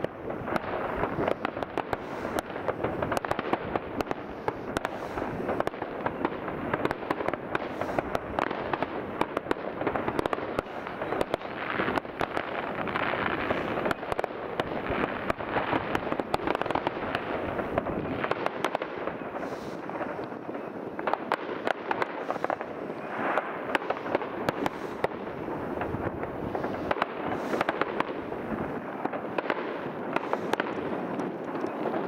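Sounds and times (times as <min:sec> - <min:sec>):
fireworks and firecrackers banging: 0:00.0 - 0:32.0.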